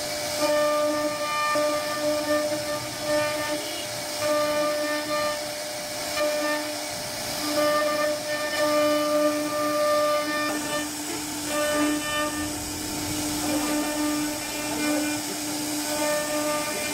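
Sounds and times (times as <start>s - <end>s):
hiss of bit cutting wood: 0.0s - 16.9s
router spindle whining: 0.0s - 16.9s.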